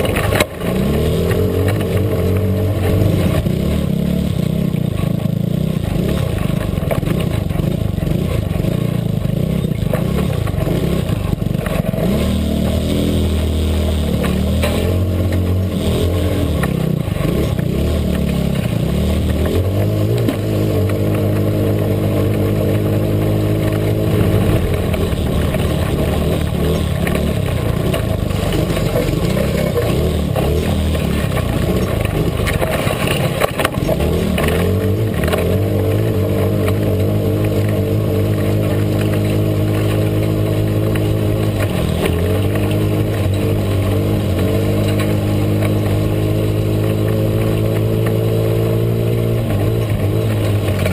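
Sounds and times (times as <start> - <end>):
small vehicle engine running: 0.0 - 50.9.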